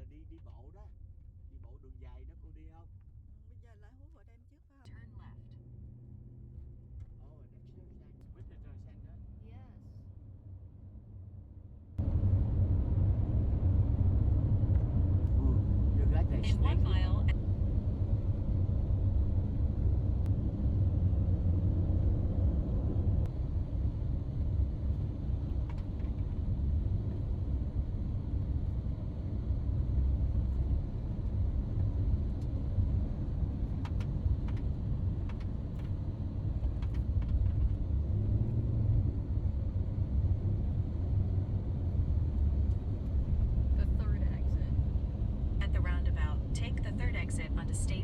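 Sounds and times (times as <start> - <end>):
road and engine rumble inside car: 0.0 - 48.0.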